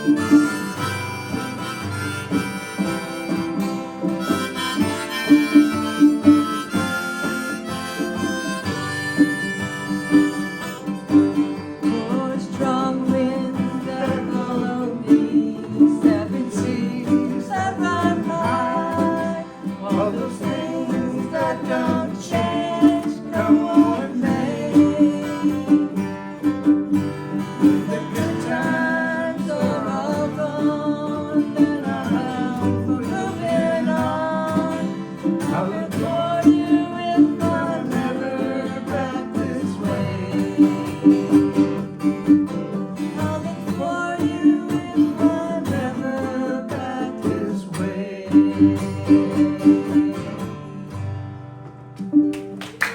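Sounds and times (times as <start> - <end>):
country-folk song: 0.0 - 52.9
strummed acoustic guitar: 0.0 - 52.9.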